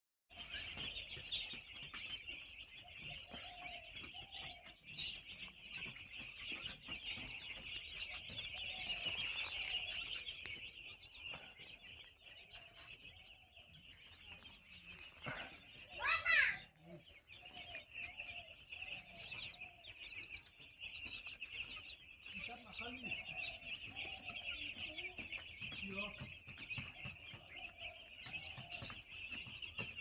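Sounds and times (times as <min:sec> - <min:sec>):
chicks peeping: 0:00.3 - 0:30.0.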